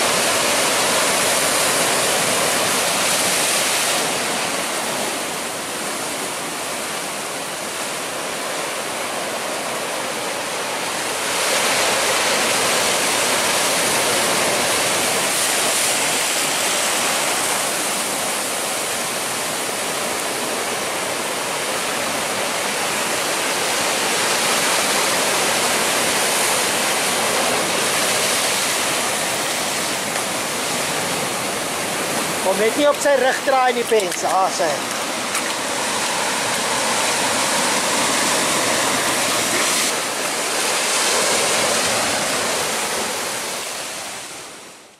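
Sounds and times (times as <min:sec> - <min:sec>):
ocean surf breaking on rocks: 0:00.0 - 0:44.9.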